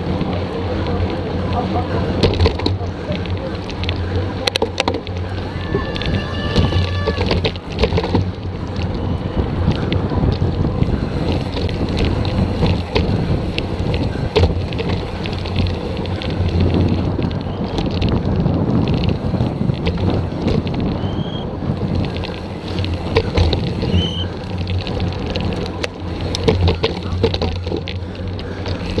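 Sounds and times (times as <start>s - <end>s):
bike clicks and rattles: 0.0s - 29.0s
bike tyres rumbling on dirt: 0.0s - 29.0s
wind rushing over microphone: 0.0s - 29.0s.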